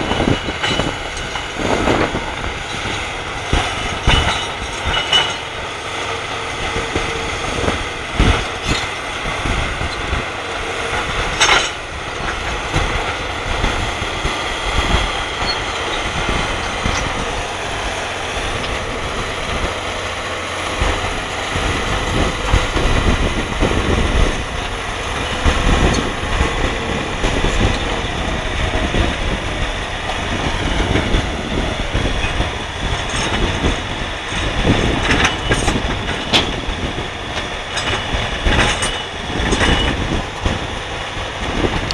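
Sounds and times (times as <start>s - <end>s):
bulldozer diesel engine working hard: 0.0s - 41.9s
steel tracks clanking: 0.0s - 41.9s.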